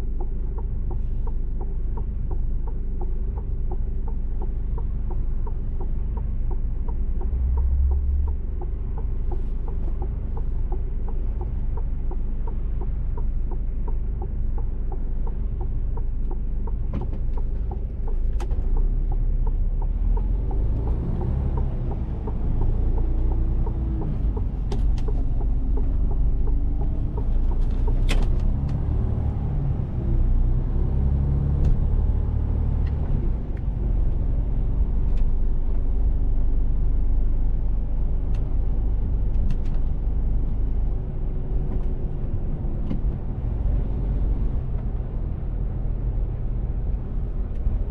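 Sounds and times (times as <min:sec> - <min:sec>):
truck diesel engine running: 0:00.0 - 0:39.3
light ticks and rattles: 0:00.0 - 0:47.9.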